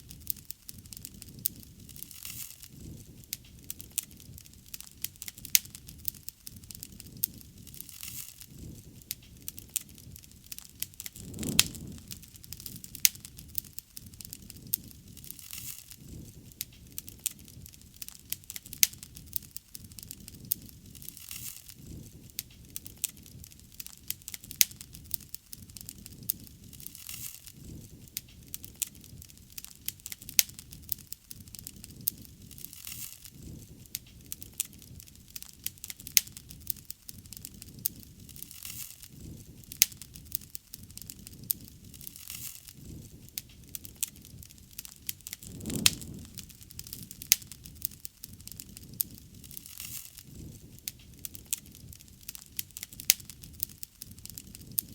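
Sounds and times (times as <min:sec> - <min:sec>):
bonfire crackling and popping: 0:00.0 - 0:54.9
low rumble of flames: 0:00.0 - 0:54.9.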